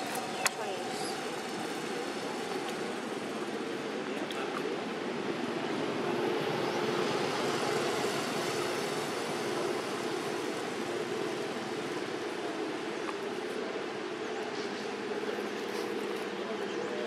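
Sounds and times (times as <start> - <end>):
engine-like drone: 0.0 - 17.0.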